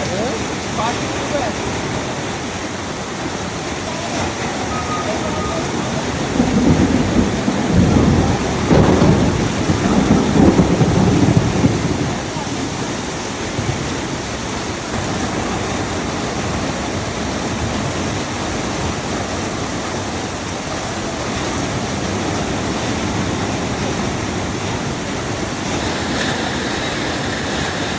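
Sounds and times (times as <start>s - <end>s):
heavy rain hiss: 0.0s - 27.9s
thunder rumbling: 3.2s - 27.9s.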